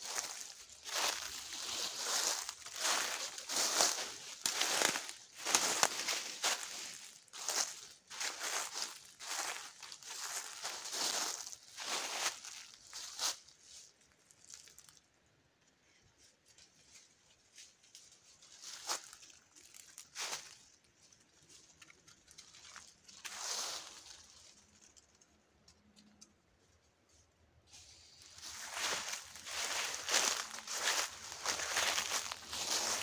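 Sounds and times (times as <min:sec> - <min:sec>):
footsteps crunching dry leaves: 0:00.0 - 0:15.0, 0:16.8 - 0:24.8, 0:27.7 - 0:33.0.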